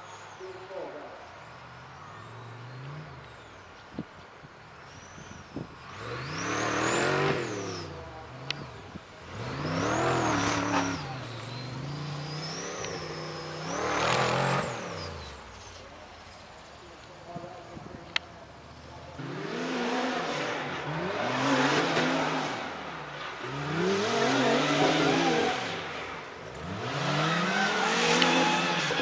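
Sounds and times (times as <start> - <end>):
buggy engine revving: 2.1 - 3.6, 4.9 - 16.8, 17.8 - 29.0.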